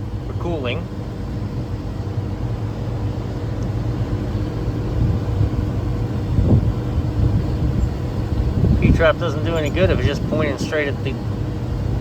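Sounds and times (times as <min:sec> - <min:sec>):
air conditioner unit humming: 0:00.0 - 0:12.0.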